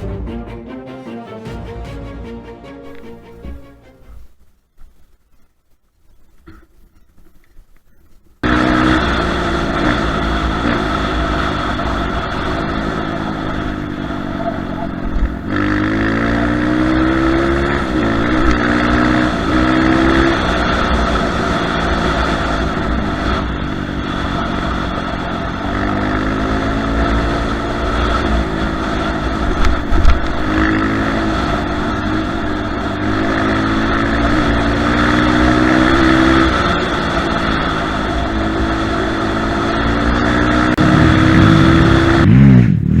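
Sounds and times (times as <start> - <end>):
dirt bike engine revving: 8.4 - 43.0.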